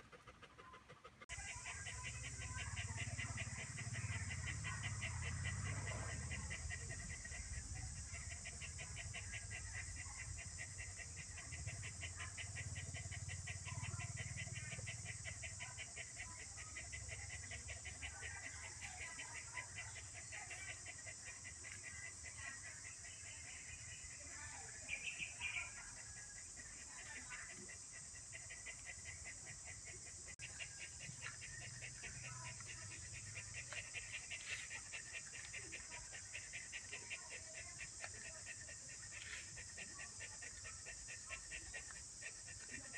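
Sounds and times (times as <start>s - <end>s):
rapid even chirping: 0.0s - 42.9s.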